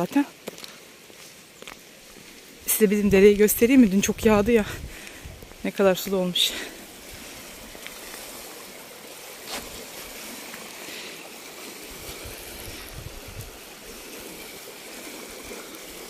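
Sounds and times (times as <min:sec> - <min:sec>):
creek water running over stones: 0:00.0 - 0:16.0.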